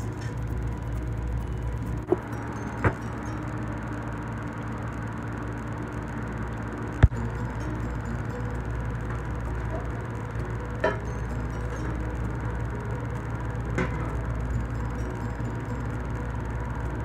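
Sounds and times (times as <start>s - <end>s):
gas burner flame rumble: 0.0s - 17.0s.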